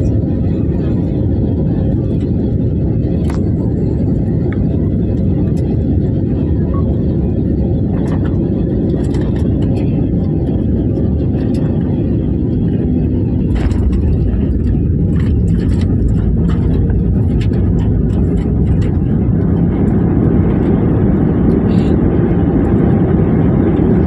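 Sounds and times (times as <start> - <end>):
rumble of engines and wheels: 0.0 - 24.0.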